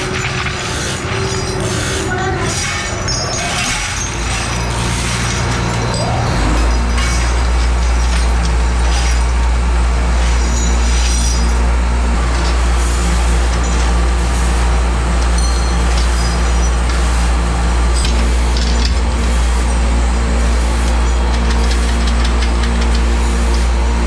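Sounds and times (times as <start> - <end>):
machinery low hum: 3.8 - 24.0.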